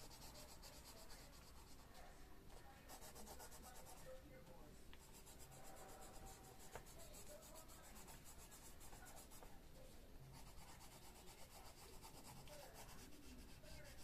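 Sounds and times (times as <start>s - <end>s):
pencil scratching on paper: 0.0s - 2.2s, 2.8s - 4.2s, 5.0s - 9.5s, 10.3s - 14.0s.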